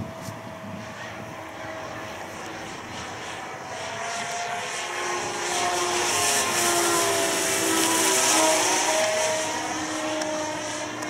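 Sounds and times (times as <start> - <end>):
model plane propeller drone: 0.0 - 11.0.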